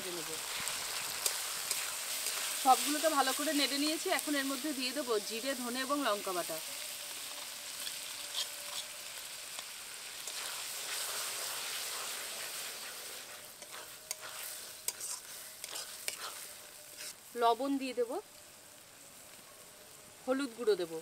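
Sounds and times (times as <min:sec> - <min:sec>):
spices sizzling in hot oil: 0:00.0 - 0:21.0.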